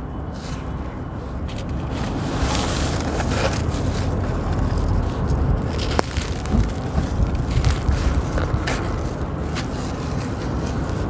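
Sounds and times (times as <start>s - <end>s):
low rumble: 0.0s - 11.0s
hands digging through gritty sand: 1.6s - 11.0s.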